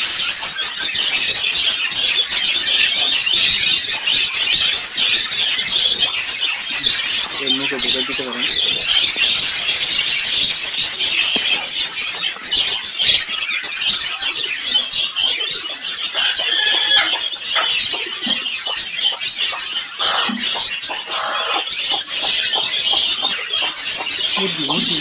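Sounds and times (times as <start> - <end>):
caged birds chirping: 0.0 - 25.0
lower bird calls: 0.0 - 25.0.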